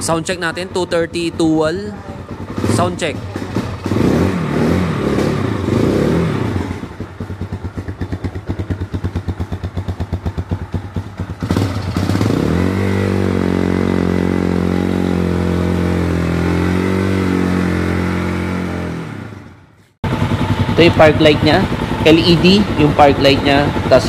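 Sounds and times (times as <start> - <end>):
motorcycle engine revving and idling: 0.0 - 24.0.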